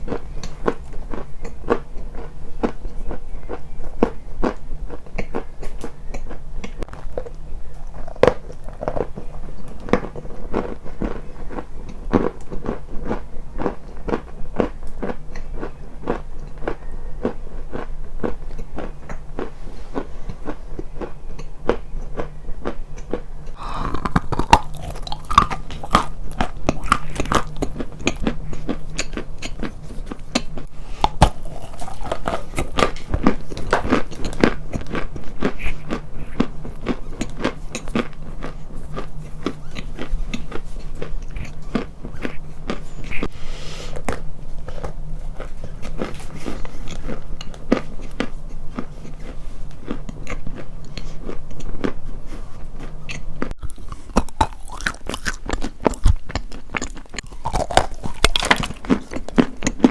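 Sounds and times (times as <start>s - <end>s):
crunching and chewing: 0.0s - 43.3s, 43.9s - 59.9s
low hum: 0.0s - 59.9s.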